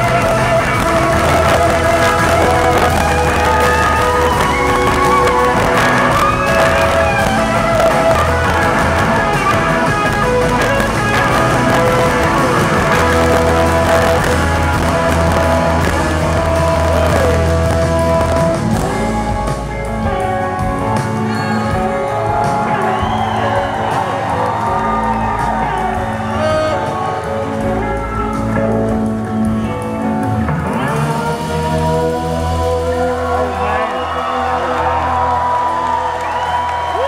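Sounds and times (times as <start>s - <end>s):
trumpet: 0.0s - 30.0s
bass and drums: 0.0s - 37.0s
electric guitars: 0.0s - 37.0s
saxophone: 0.0s - 37.0s.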